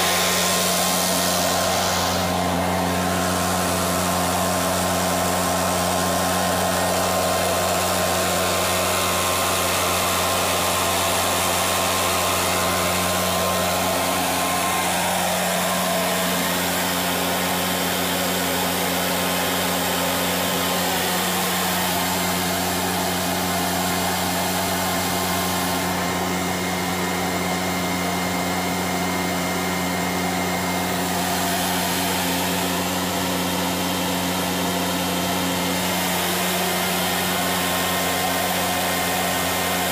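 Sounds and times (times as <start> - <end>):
gas turbine running: 0.0 - 39.9.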